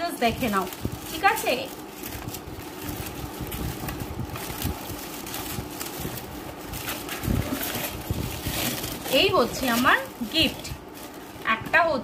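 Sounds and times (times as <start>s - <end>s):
packing paper rustling and crinkling: 0.0s - 12.0s.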